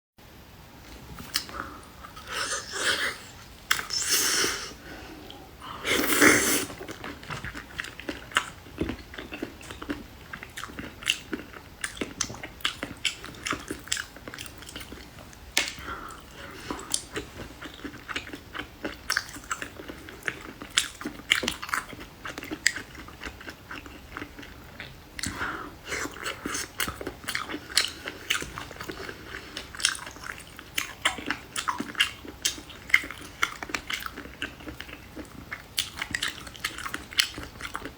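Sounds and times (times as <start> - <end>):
person chewing food: 1.2 - 37.9.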